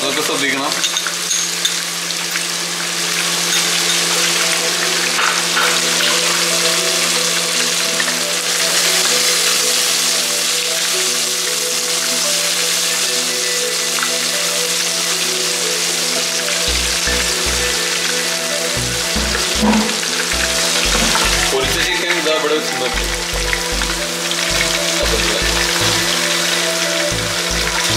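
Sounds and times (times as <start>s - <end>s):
food sizzling in oil: 0.7s - 27.9s
background music: 3.8s - 27.9s.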